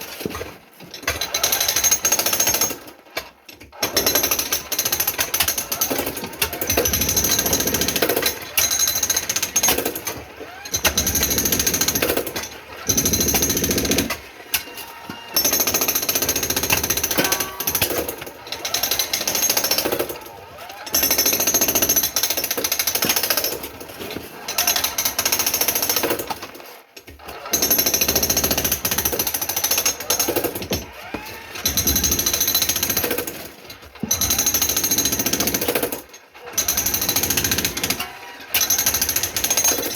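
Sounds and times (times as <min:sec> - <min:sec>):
jackhammer breaking concrete: 0:00.0 - 0:39.9.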